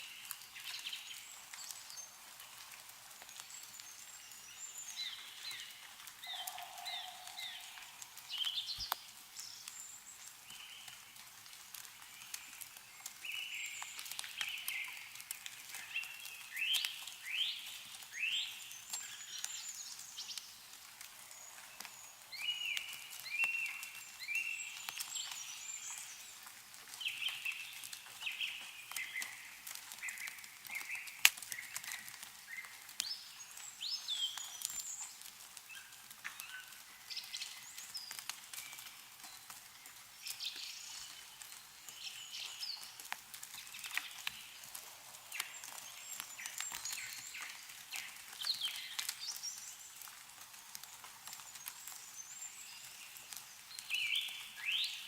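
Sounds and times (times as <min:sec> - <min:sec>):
snow dripping from trees: 0:00.0 - 0:55.0
songbirds chirping and trilling: 0:00.0 - 0:55.0.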